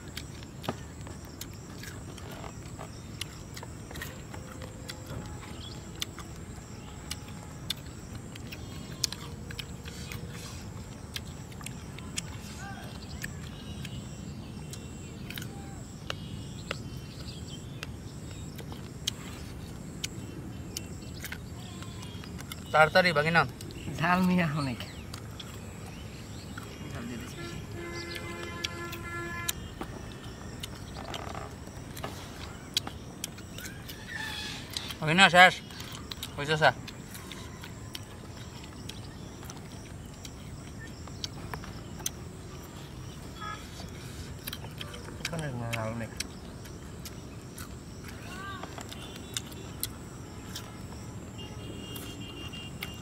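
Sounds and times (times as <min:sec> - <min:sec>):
high insect tone: 0:00.0 - 0:53.0
people chewing: 0:00.0 - 0:53.0
mouth noises eating: 0:00.1 - 0:17.4, 0:18.2 - 0:51.0.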